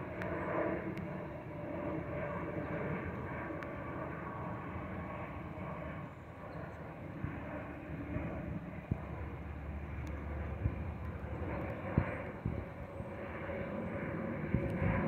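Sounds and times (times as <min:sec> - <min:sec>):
airplane engine rumble overhead: 0:00.0 - 0:15.0.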